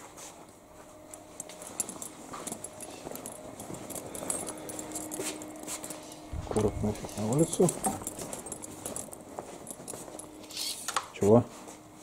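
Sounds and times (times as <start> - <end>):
footsteps on tiled floor: 0.0 - 10.9
faint steady hum: 0.0 - 12.0.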